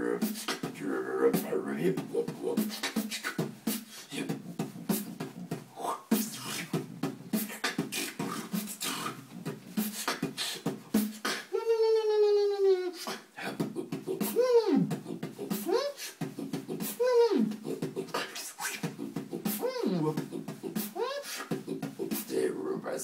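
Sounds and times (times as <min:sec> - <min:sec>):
person beatboxing: 0:00.0 - 0:23.0.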